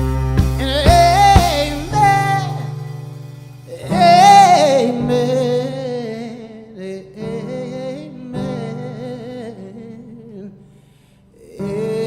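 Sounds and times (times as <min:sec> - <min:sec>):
person singing wavering vocal: 0:00.6 - 0:02.9, 0:03.7 - 0:10.6, 0:11.4 - 0:12.0.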